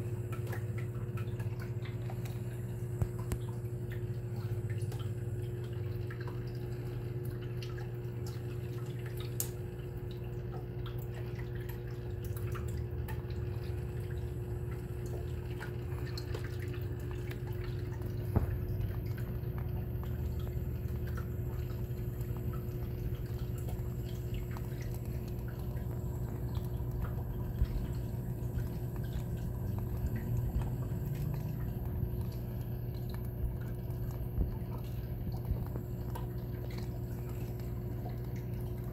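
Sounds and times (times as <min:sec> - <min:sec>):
low pump hum: 0:00.0 - 0:38.9
water dripping and trickling: 0:00.0 - 0:38.9.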